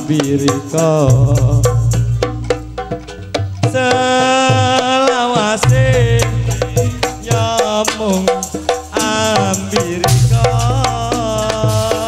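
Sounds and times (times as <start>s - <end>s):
person singing: 0.0s - 2.3s, 3.6s - 12.0s
hand drum strokes: 0.0s - 12.0s
steady bass line: 0.8s - 4.4s, 5.6s - 12.0s.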